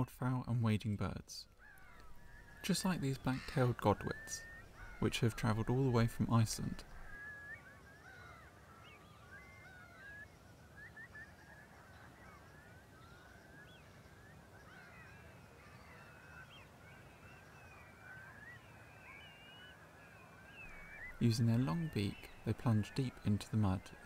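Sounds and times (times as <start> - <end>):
wading birds chattering: 1.5 - 24.0.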